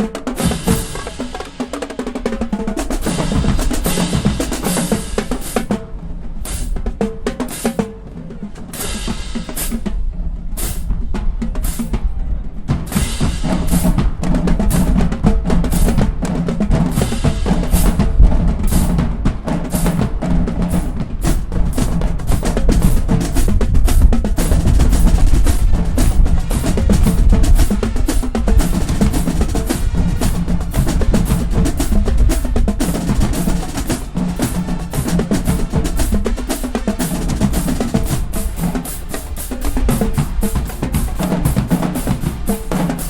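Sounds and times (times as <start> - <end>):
bass drums: 0.0 - 1.6, 2.4 - 43.0
snare drums: 0.0 - 43.0.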